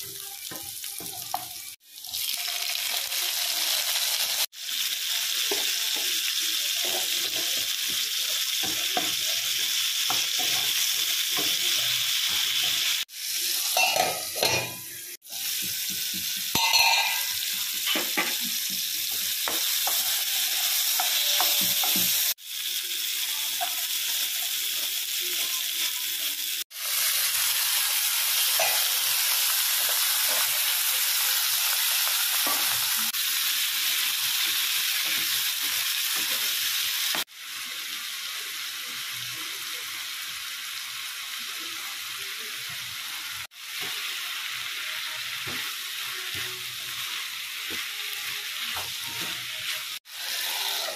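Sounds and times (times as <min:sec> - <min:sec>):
oil sizzling in a frying pan: 0:00.0 - 0:50.9.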